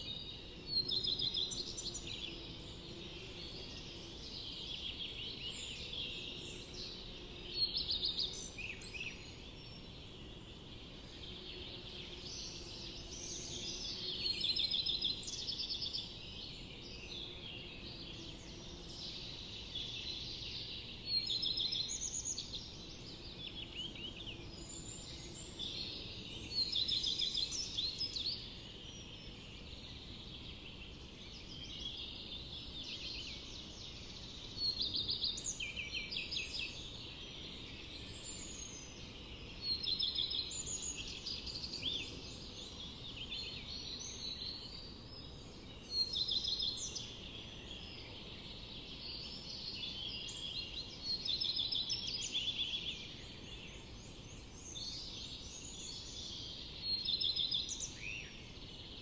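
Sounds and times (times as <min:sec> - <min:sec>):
birds chirping and trilling: 0:00.0 - 0:59.0
loud birdsong phrase: 0:00.0 - 0:59.0.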